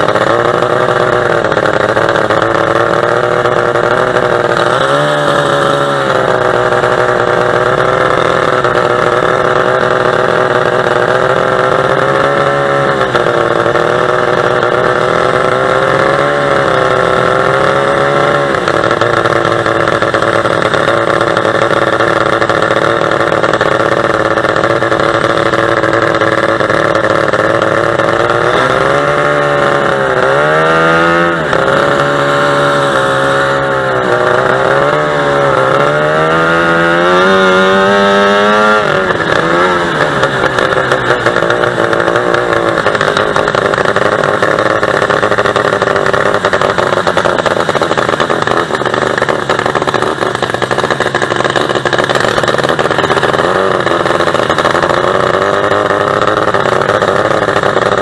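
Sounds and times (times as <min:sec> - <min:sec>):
boat engine running hard: 0:00.0 - 0:58.0.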